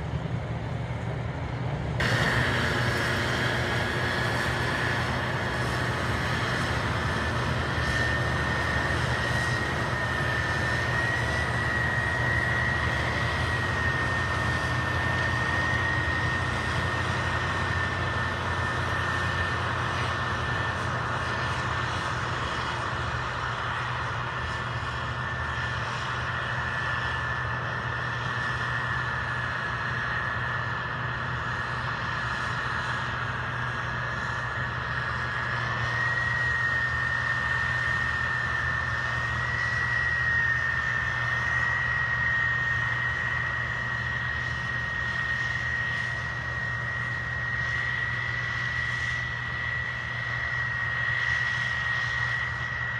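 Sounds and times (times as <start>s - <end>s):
combine harvester drone: 0.0s - 52.9s
high machine whine: 1.9s - 52.9s.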